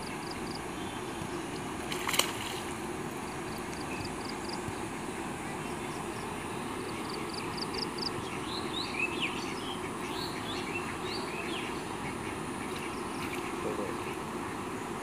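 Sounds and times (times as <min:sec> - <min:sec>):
birds chirping: 0:00.0 - 0:01.9, 0:02.7 - 0:15.0.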